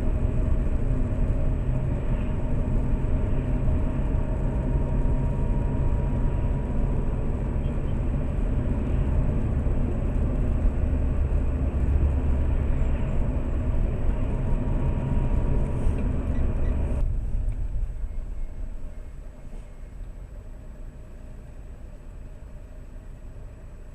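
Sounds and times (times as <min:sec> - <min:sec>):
car engine and road noise inside cabin: 0:00.0 - 0:23.9.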